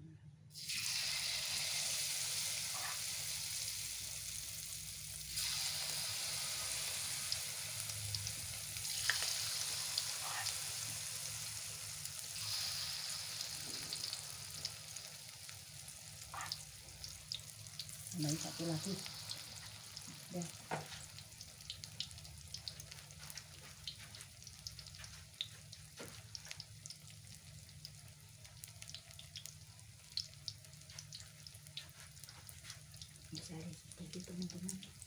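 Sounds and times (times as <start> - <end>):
batter sizzling in hot oil: 0.5 - 35.0.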